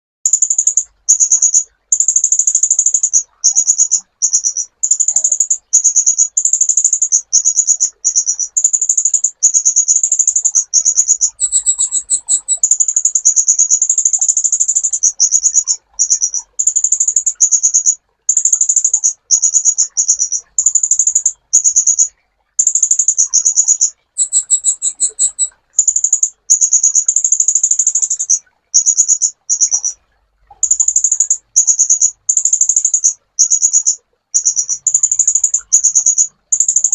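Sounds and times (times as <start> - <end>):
sunbird singing buzzy trills: 0.2 - 36.9.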